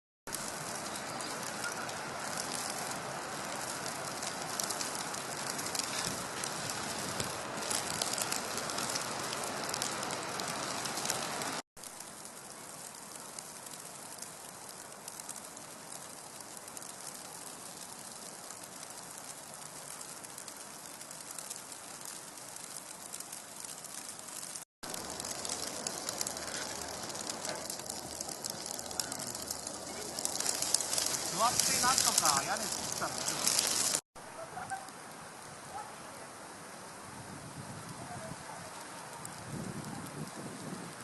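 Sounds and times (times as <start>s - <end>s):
wet snow pattering: 0.3s - 41.0s.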